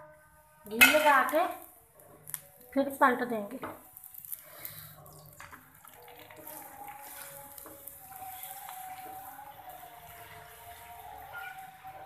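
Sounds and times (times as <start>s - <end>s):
flatbread sizzling in a frying pan: 0.7s - 12.0s.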